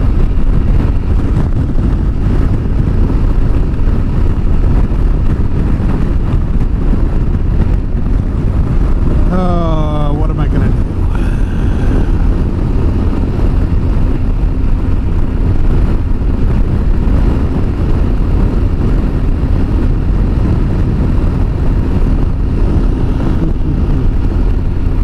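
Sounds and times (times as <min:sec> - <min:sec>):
motorcycle engine: 0:00.0 - 0:25.0
road noise: 0:00.0 - 0:25.0
wind buffeting a helmet microphone: 0:00.0 - 0:25.0.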